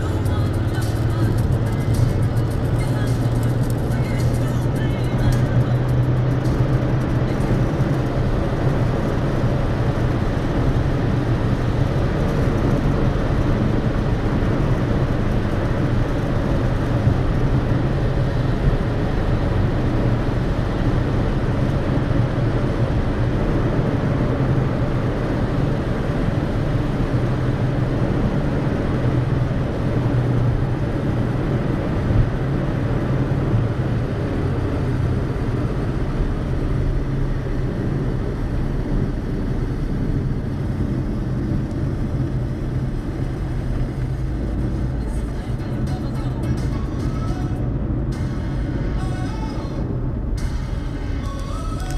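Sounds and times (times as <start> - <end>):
car engine and tyre noise: 0.0 - 51.9
low drone: 0.0 - 51.9.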